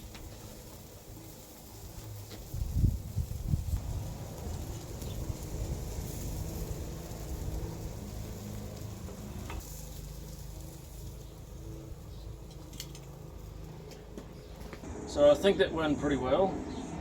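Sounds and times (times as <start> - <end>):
food sizzling on a grill: 0.0 - 14.8.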